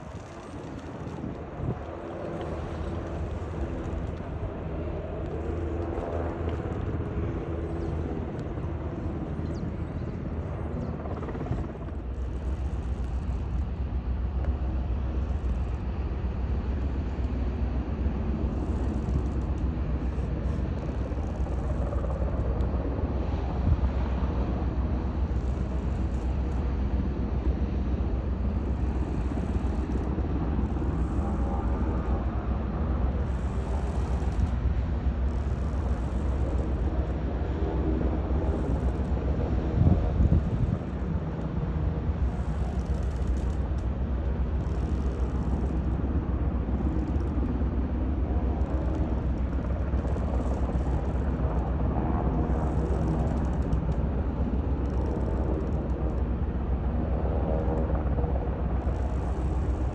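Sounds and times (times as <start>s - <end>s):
ship engine rumble: 0.0s - 59.9s.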